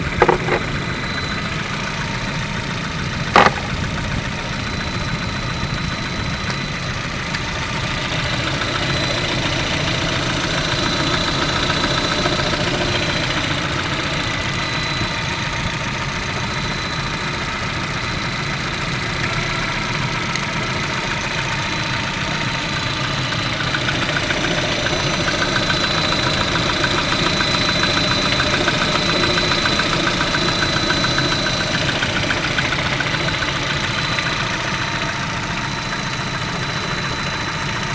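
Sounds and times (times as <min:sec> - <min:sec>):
car engine running with knock: 0:00.0 - 0:37.9.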